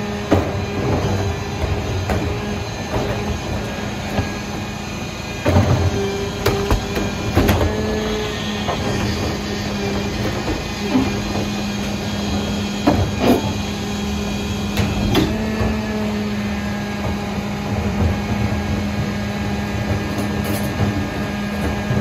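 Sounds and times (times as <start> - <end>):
garbage truck engine and hydraulics hum: 0.0 - 22.0.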